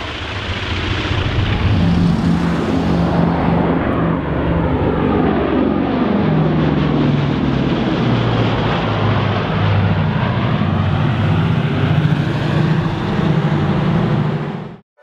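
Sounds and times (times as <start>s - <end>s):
propeller aircraft droning overhead: 0.0s - 14.8s.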